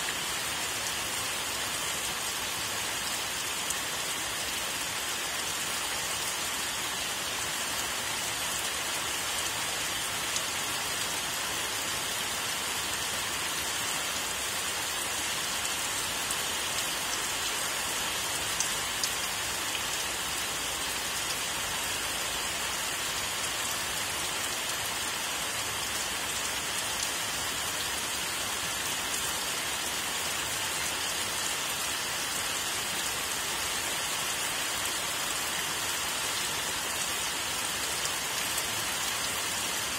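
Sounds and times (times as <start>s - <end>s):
rain falling on leafy trees: 0.0s - 39.9s.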